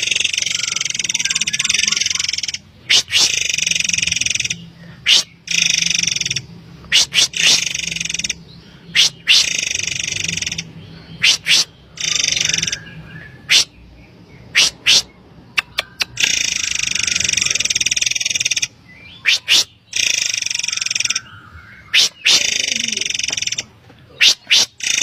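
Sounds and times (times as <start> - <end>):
bird calling with sharp high notes: 0.0 - 13.8, 14.4 - 25.0
buzzy hissing bird phrases: 0.0 - 25.0.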